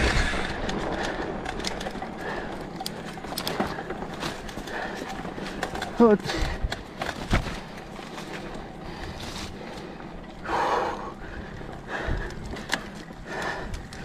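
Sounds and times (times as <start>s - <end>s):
bike rattling on rough trail: 0.0s - 14.0s
cyclist heavy breathing: 0.0s - 14.0s.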